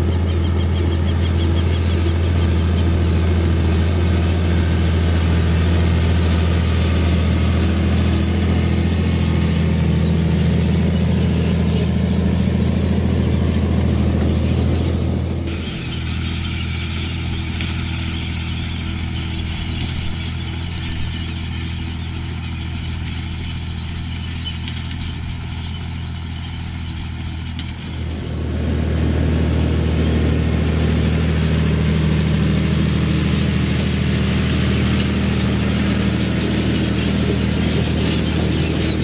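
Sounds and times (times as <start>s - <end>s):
tractor diesel engine running: 0.0s - 39.0s
rough noisy layer: 1.6s - 39.0s.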